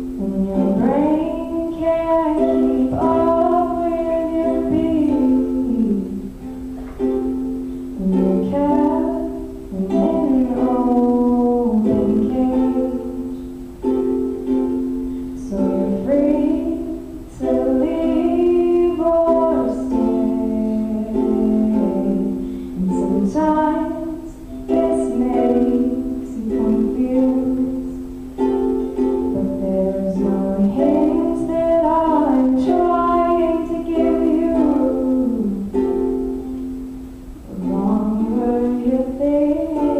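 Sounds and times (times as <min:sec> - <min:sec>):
woman singing: 0:00.0 - 0:36.5, 0:37.4 - 0:39.9.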